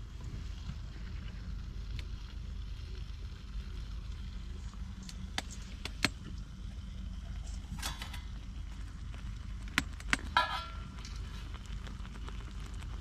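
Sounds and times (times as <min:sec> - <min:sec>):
low rumble: 0:00.0 - 0:13.0
wood fire crackling: 0:00.0 - 0:13.0.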